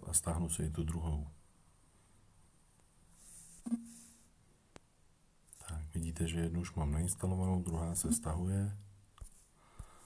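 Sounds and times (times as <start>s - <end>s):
soft hiss: 0.0s - 10.0s.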